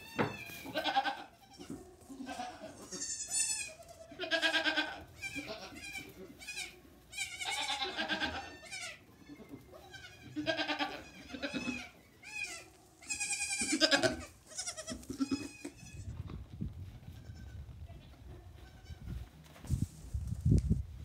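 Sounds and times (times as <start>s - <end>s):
goat kids bleating: 0.0s - 16.2s, 16.9s - 19.2s.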